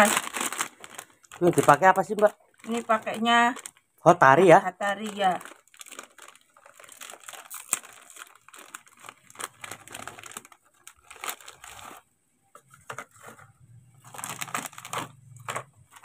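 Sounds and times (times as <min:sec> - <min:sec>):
crackers clicking and rattling: 0:00.0 - 0:03.9, 0:04.9 - 0:16.0
plastic wrapper crinkling: 0:00.0 - 0:16.0.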